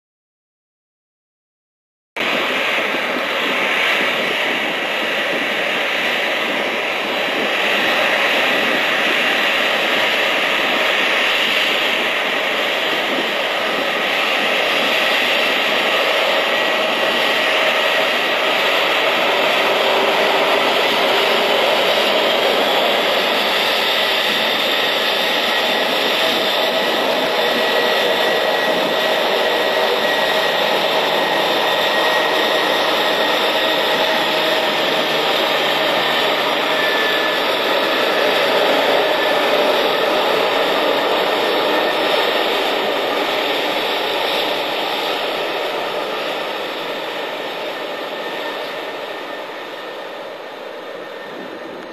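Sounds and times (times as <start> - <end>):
jet engines whining: 2.2 - 51.9.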